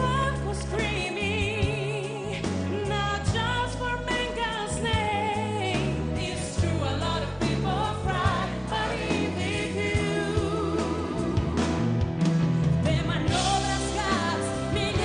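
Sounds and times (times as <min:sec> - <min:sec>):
pop ballad with singing: 0:00.0 - 0:15.0
steady bass notes: 0:00.0 - 0:15.0.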